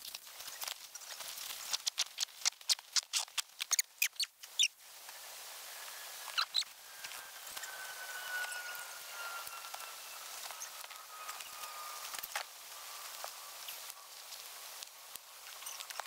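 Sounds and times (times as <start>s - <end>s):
nylon sack rustling and squeaking: 0.0s - 16.0s.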